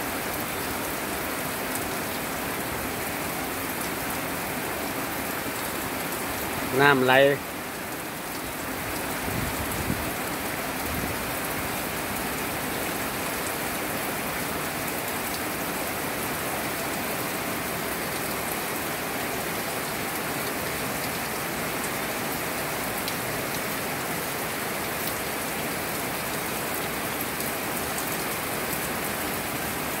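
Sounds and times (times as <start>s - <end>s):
rain falling on gravel and puddles: 0.0s - 30.0s.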